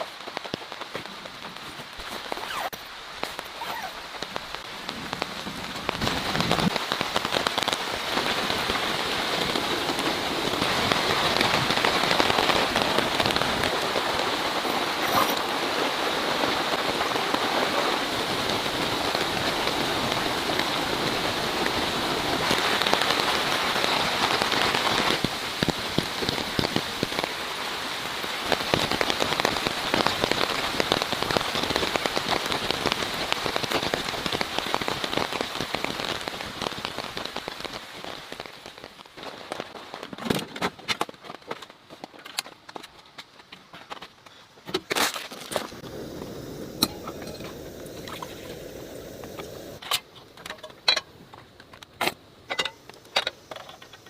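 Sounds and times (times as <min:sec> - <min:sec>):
heavy rain: 0:00.0 - 0:40.6, 0:45.4 - 0:51.1.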